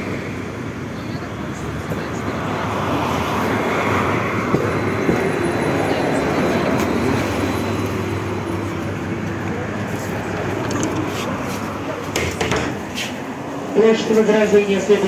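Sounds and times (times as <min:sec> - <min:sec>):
tram wheels rolling on rails: 0:00.0 - 0:14.2.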